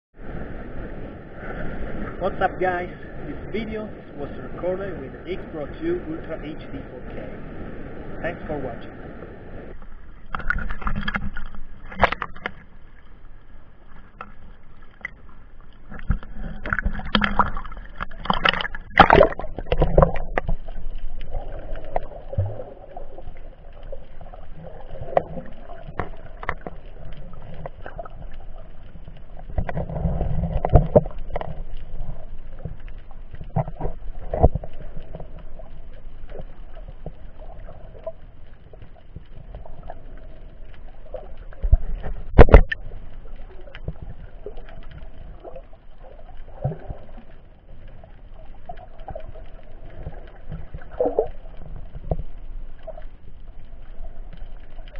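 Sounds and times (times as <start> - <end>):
muffled water sloshing underwater: 0.1 - 54.9.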